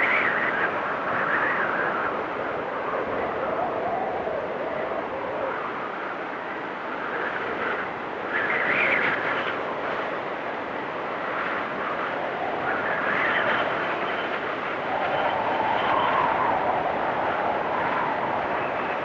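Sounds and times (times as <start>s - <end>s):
blizzard wind howling: 0.0s - 19.0s.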